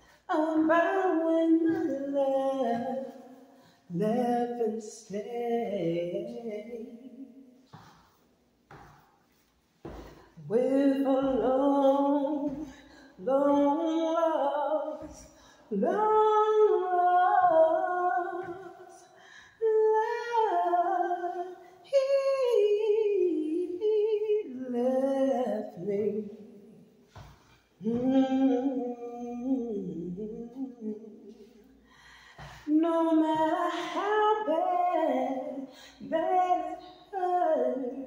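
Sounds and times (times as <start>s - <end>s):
woman singing unaccompanied: 0.0s - 7.5s, 9.8s - 26.8s, 27.8s - 31.6s, 32.5s - 38.0s.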